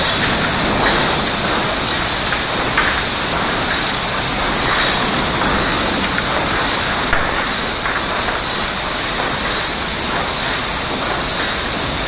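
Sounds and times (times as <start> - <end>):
chain conveyors machine noise: 0.0 - 12.0.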